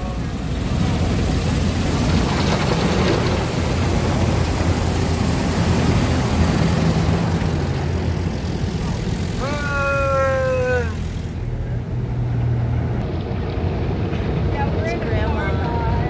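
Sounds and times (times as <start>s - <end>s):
car wash brushes and water spray: 0.0s - 15.3s
loud steady low rumble: 0.0s - 16.0s.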